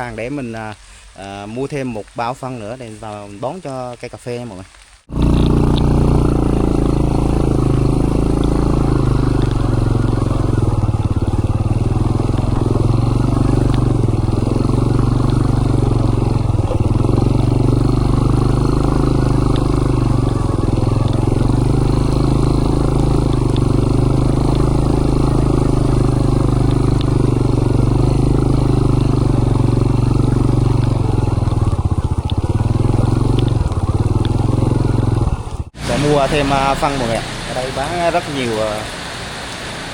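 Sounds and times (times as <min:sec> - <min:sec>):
motorbike engine running: 0:05.1 - 0:39.9.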